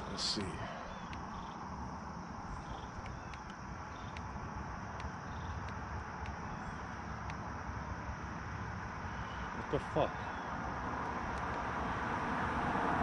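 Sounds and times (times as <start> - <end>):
insect ticks and chirps: 0.0 - 12.2.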